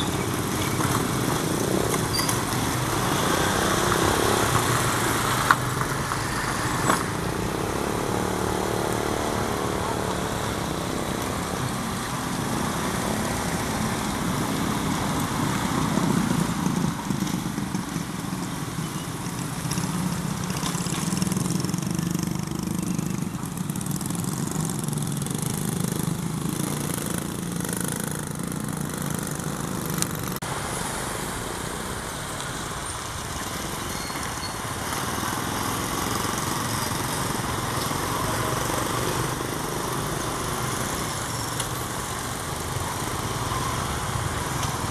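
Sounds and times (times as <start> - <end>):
small motorcycle passing: 0.0 - 44.9.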